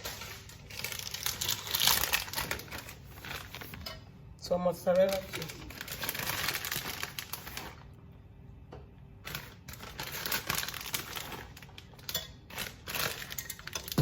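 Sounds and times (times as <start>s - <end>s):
cheese rustling into a bowl: 0.0s - 4.0s, 4.8s - 8.0s, 9.2s - 14.0s.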